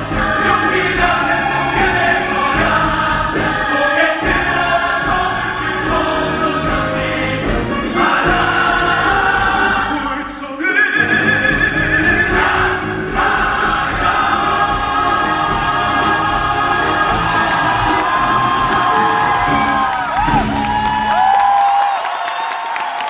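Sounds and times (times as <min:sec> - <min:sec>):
ensemble singing in chorus: 0:00.0 - 0:20.2
orchestral accompaniment: 0:00.0 - 0:21.0.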